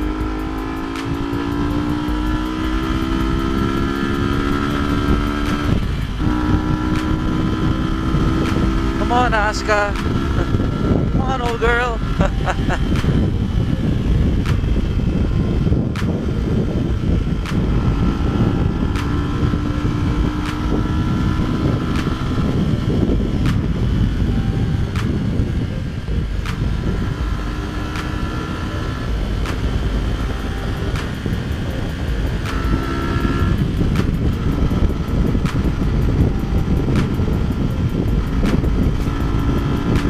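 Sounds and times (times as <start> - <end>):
motorcycle engine running: 0.0 - 40.0
wind rushing over camera: 0.0 - 40.0.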